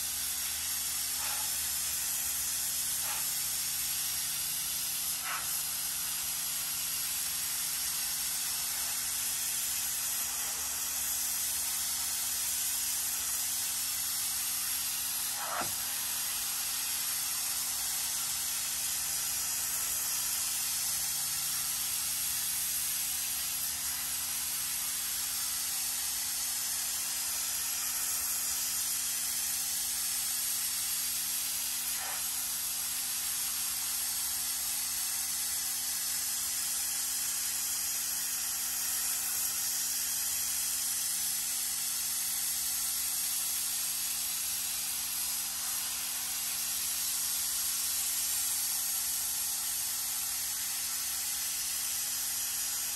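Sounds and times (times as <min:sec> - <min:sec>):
pressure washer spraying: 0:00.0 - 0:52.9.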